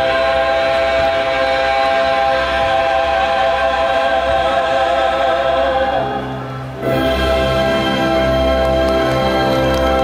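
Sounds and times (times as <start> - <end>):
group singing in harmony: 0.0 - 8.4.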